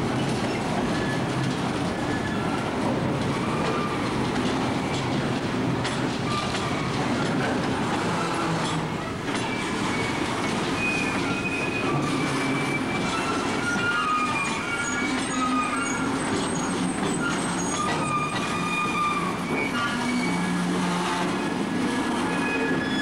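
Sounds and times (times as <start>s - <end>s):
train wheels rumbling on rails: 0.0s - 23.0s
wheel squeals: 0.2s - 23.0s.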